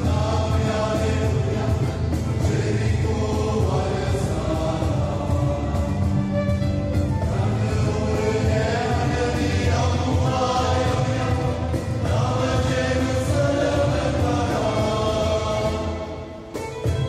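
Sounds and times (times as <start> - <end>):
choir singing a hymn: 0.0 - 17.0
instrumental backing: 0.0 - 17.0.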